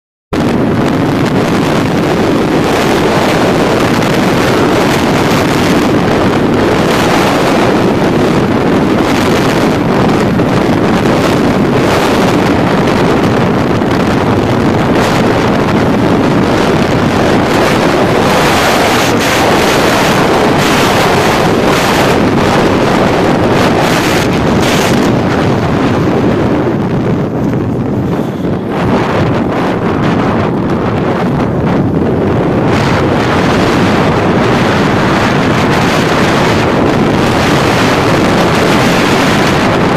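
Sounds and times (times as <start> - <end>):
motorcycle running noise: 0.3 - 39.9
wind rushing over microphone: 0.3 - 39.9.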